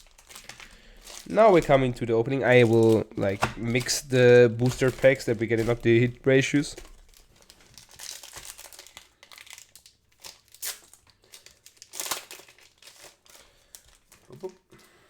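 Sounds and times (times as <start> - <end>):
foil packs crinkling: 0.0 - 14.9.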